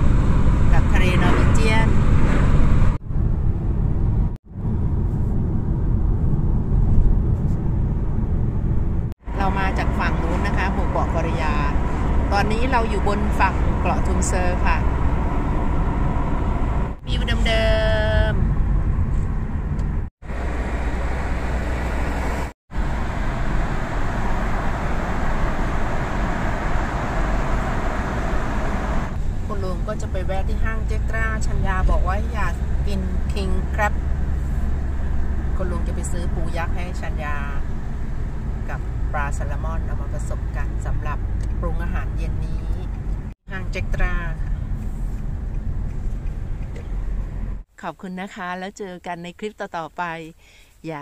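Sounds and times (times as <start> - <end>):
road and wind noise inside car: 0.0 - 47.8.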